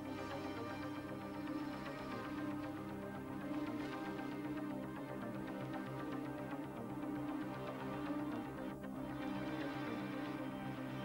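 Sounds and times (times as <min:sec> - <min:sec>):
instrumental music with sustained tones: 0:00.0 - 0:11.0.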